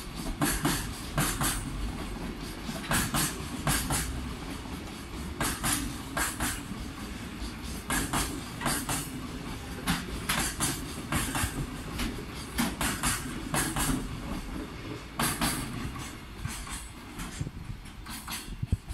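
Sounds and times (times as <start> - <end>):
rumble of wheels on rail: 0.0 - 18.9
train wheels clacking on joints: 0.0 - 18.9.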